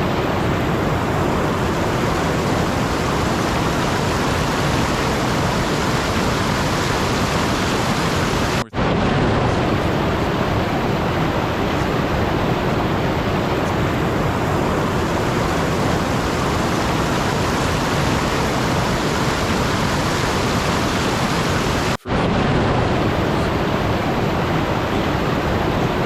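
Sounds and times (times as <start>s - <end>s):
steady rushing hiss: 0.0s - 8.7s, 9.6s - 22.1s.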